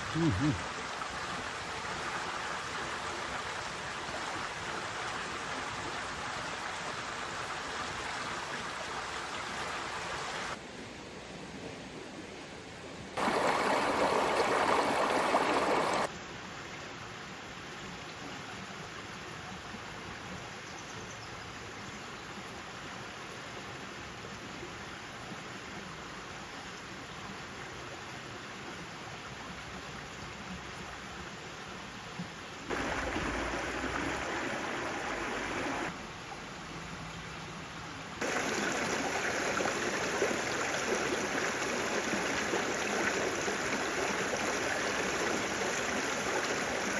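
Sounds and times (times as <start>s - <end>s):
rushing water: 0.0s - 10.6s, 13.2s - 16.1s, 22.6s - 46.9s.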